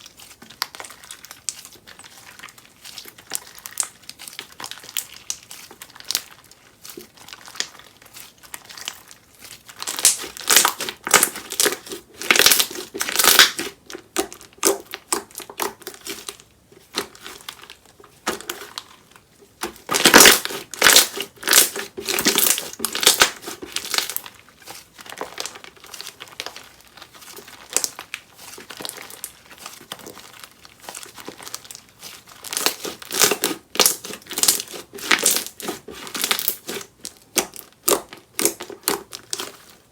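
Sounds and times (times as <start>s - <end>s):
bead-filled slime crackling: 0.0s - 39.9s.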